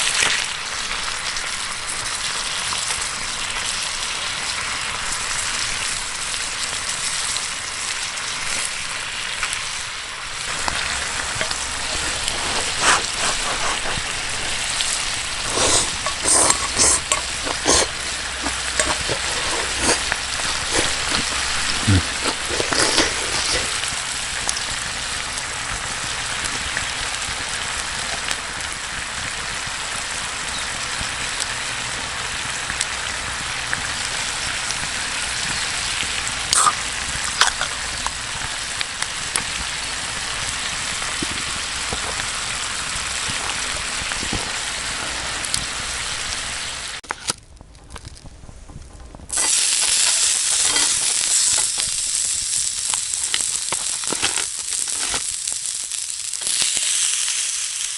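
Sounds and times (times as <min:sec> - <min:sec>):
food sizzling in a pan: 0:00.0 - 0:47.0, 0:49.3 - 0:57.9
crackles and pops: 0:00.0 - 0:57.9.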